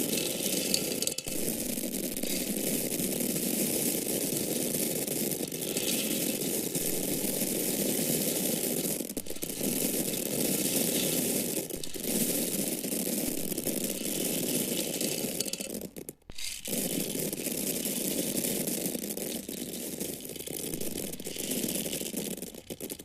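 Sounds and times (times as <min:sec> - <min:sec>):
dry corn kernels pouring: 0:00.0 - 0:23.0.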